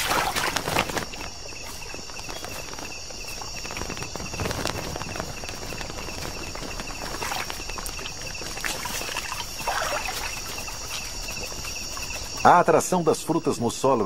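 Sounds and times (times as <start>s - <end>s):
animal rustling in leaf litter: 0.0s - 12.7s
insects trilling: 0.0s - 14.0s
small ticks: 0.6s - 12.7s.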